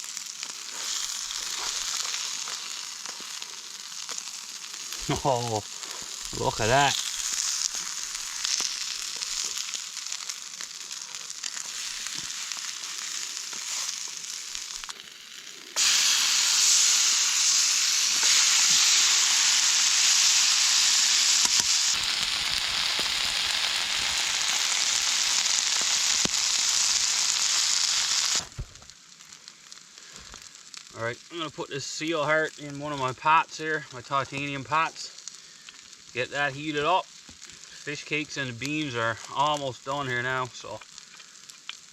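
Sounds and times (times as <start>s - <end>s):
fish cakes sizzling in a frying pan: 0.0s - 41.9s.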